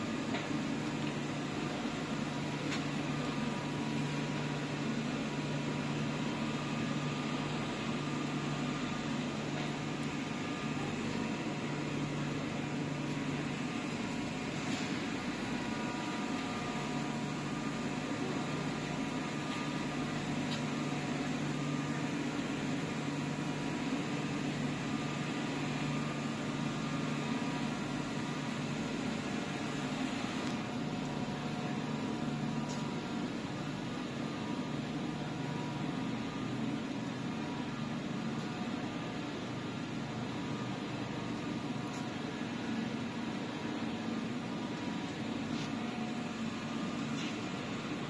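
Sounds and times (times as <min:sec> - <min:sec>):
machinery humming: 0:00.0 - 0:48.0.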